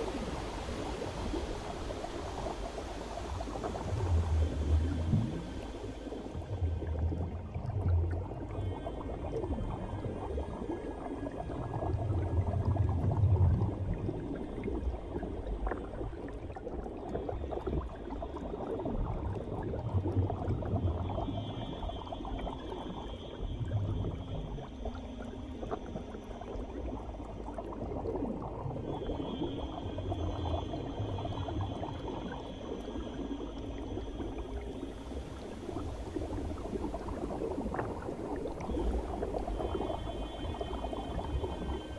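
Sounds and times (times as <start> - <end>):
muffled underwater bubbling: 0.0 - 41.9.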